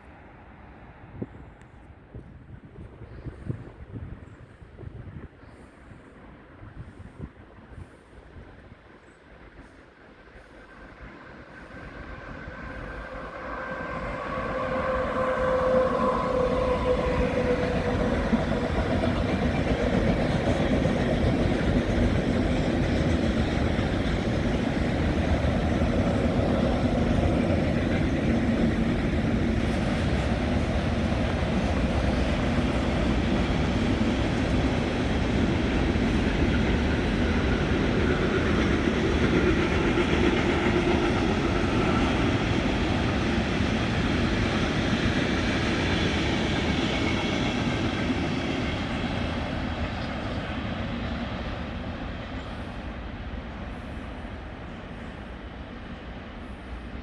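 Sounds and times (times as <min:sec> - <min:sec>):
train wheels rumbling on rails: 0:01.0 - 0:57.0.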